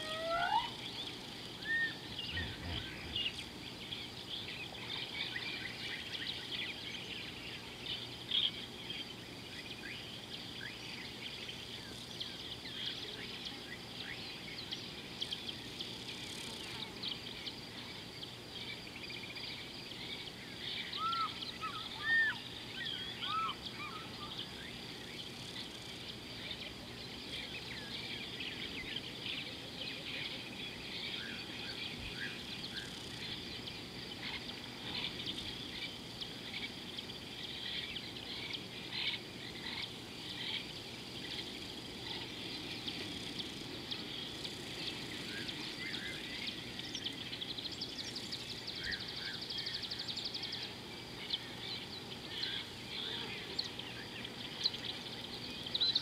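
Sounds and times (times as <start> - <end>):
bird calls: 0.0 - 56.0
insects and frogs chirping: 0.0 - 56.0.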